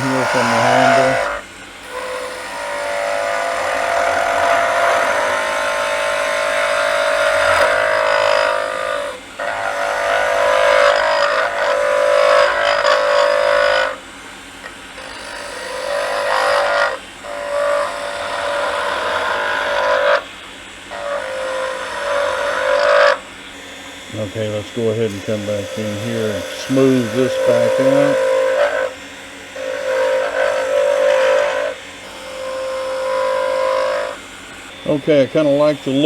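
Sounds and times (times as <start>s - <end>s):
wood lathe tool cutting hiss: 0.0s - 36.0s.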